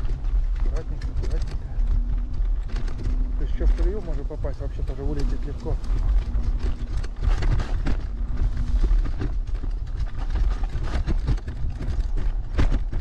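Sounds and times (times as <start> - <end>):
electric scooter rumbling on dirt track: 0.0 - 13.0
frame knocks and rattles: 0.0 - 13.0.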